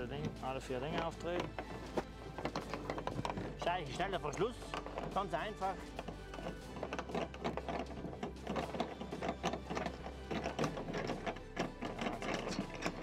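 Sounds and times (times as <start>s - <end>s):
fasteners clicking and clattering: 0.0s - 13.0s.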